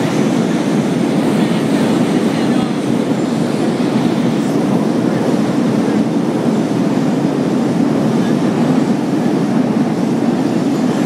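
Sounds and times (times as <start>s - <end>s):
train rumbling over steel bridge: 0.0s - 11.0s.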